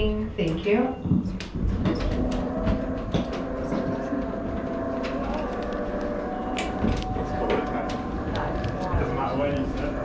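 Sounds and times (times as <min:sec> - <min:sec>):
cable car running rumble: 0:00.0 - 0:10.0.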